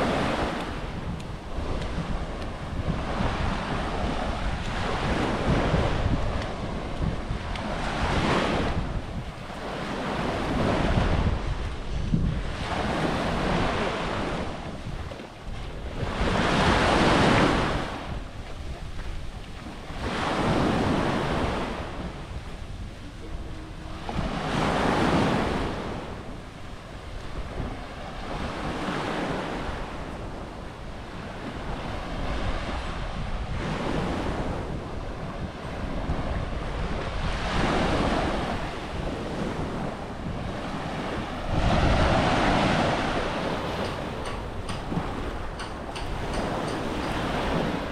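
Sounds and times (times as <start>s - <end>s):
small waves washing onto sand: 0.0s - 47.9s
wind rumbling on microphone: 0.0s - 47.9s.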